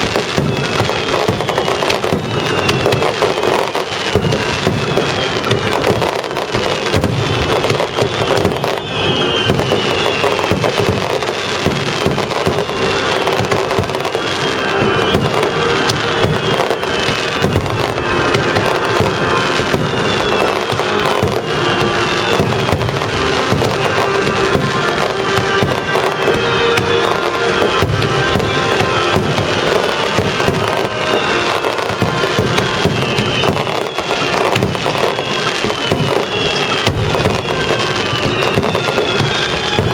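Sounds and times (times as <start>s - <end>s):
fireworks bursting and crackling: 0.0s - 39.9s
orchestral music over loudspeakers: 0.0s - 39.9s.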